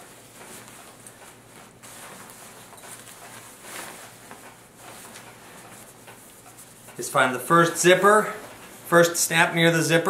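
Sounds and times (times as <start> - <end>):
nylon fabric rustling: 0.0 - 9.0.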